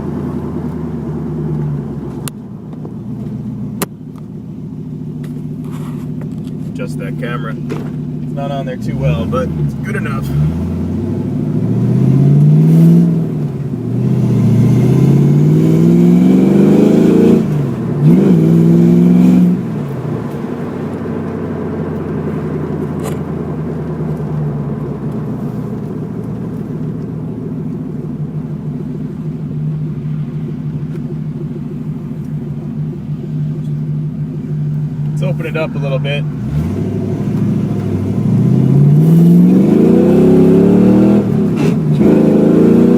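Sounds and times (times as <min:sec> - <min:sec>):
car engine accelerating hard: 0:00.0 - 0:42.9.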